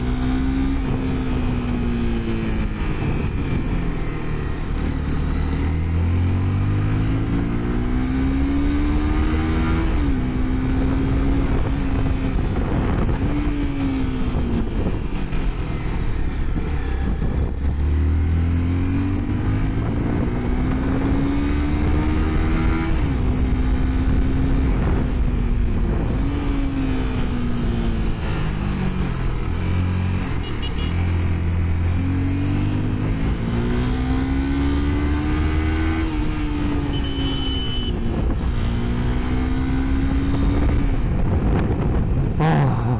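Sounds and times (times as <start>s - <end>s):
wind rushing over microphone: 0.0s - 30.4s, 37.9s - 42.9s
motorcycle engine revving: 0.0s - 42.9s.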